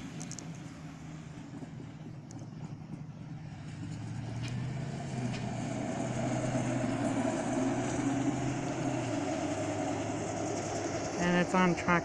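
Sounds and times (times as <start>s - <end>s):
truck engine hum: 0.0s - 12.0s
wheels on rails: 0.0s - 12.0s.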